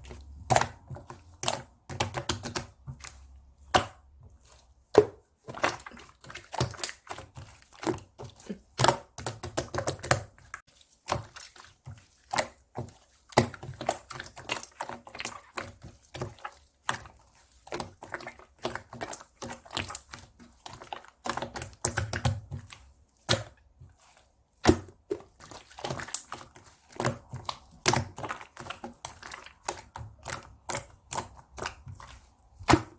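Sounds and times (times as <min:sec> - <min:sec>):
hands squishing slime: 0:00.0 - 0:32.9.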